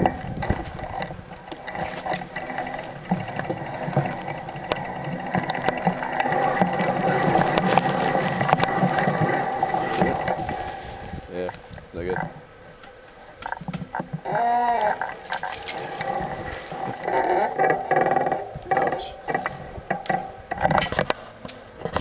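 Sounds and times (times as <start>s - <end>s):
bicycle rattling on dirt trail: 0.0s - 22.0s.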